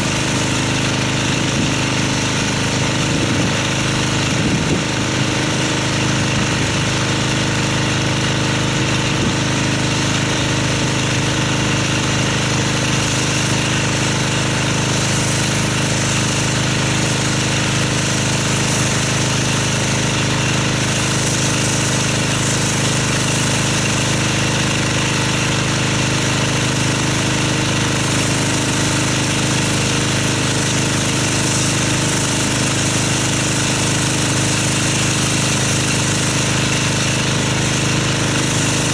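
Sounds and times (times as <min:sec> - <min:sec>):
pressure washer humming: 0:00.0 - 0:38.9
water jet spraying a car: 0:00.0 - 0:38.9.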